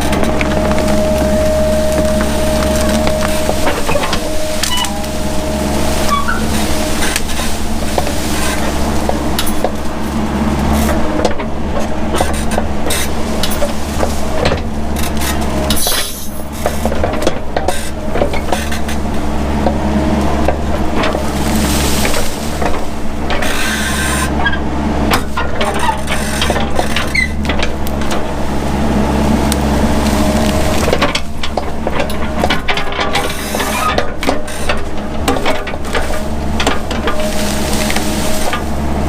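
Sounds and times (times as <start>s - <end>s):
metallic clanks and squeaks: 0.0s - 19.8s, 20.4s - 28.4s, 29.6s - 39.0s
brush cracking and snapping: 0.0s - 24.4s, 25.2s - 39.0s
excavator engine running: 0.0s - 39.0s.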